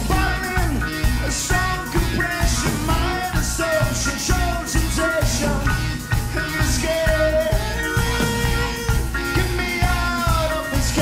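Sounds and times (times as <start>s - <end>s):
drum kit with cymbals: 0.0s - 11.0s
electric guitar: 0.0s - 11.0s.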